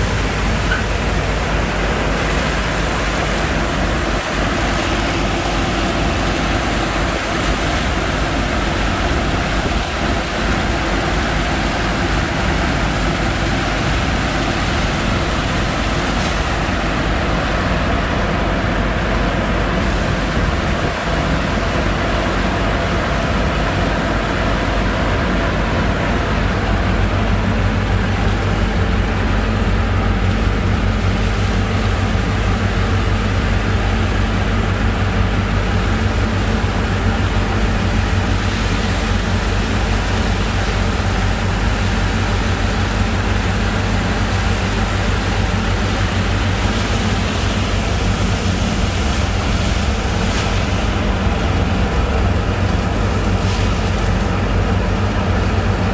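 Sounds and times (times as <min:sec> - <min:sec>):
pump engine running: 0:00.0 - 0:55.9.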